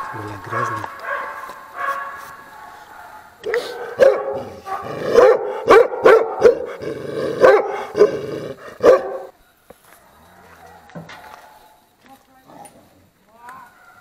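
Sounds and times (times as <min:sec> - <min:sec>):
dog barking: 0:00.0 - 0:11.8, 0:13.7 - 0:14.0.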